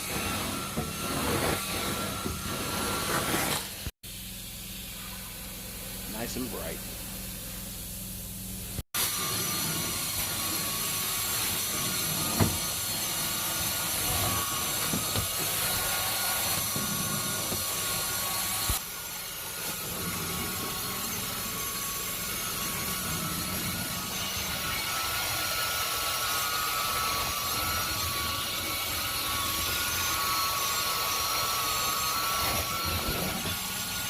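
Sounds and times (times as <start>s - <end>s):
vacuum cleaner on carpet: 0.0s - 4.2s, 4.8s - 34.0s.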